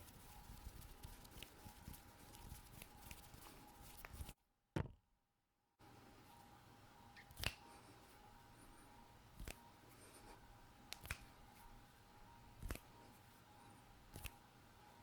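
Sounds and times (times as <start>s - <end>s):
faint steady hum: 0.0s - 4.3s, 5.8s - 15.0s.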